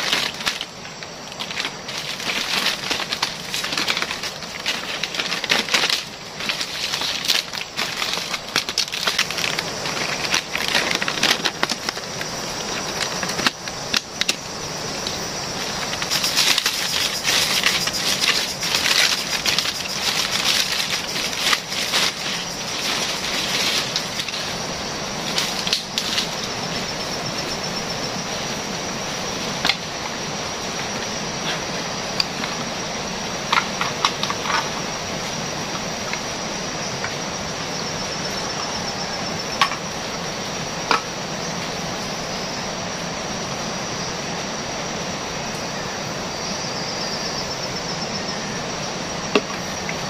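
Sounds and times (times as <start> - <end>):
palm fronds rustling: 0.0 - 43.1.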